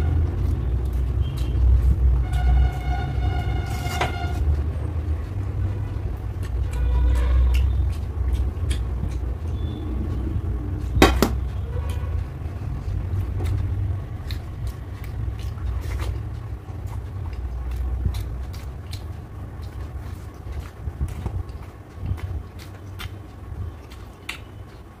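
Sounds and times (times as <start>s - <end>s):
person chewing wetly: 0.0s - 2.7s, 3.7s - 25.0s
deep rumble: 0.0s - 23.8s.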